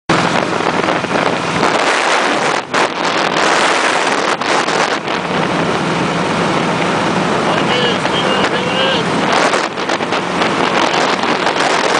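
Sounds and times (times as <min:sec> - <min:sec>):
motorcycle road and engine noise: 0:00.1 - 0:11.9
wind buffeting microphone: 0:00.1 - 0:11.9.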